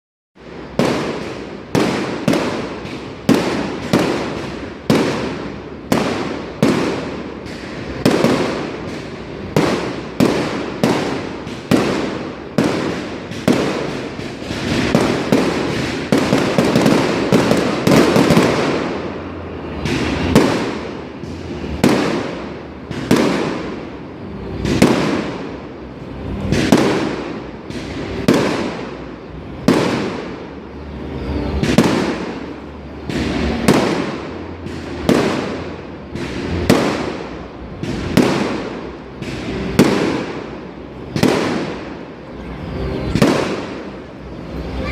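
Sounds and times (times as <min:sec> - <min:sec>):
fireworks bangs with echo: 0:00.4 - 0:44.9
fireworks crackling: 0:00.4 - 0:44.9.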